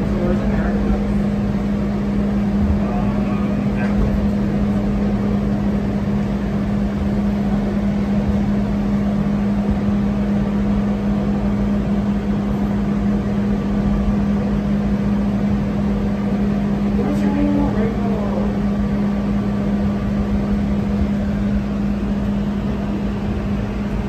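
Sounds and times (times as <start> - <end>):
funicular car rumbling on track: 0.0 - 24.0.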